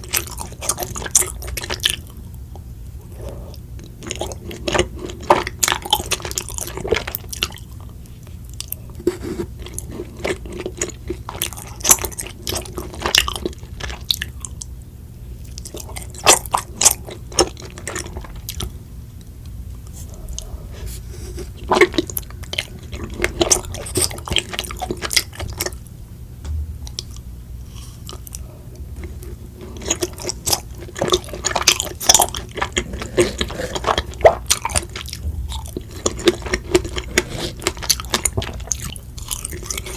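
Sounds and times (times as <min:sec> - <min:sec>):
close-miked chewing: 0:00.0 - 0:14.8, 0:15.4 - 0:25.9, 0:26.8 - 0:39.9.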